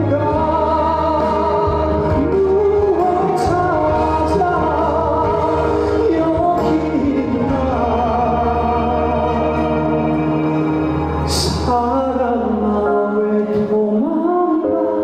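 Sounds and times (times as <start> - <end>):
amplified backing track: 0.0 - 15.0
man singing: 0.0 - 15.0.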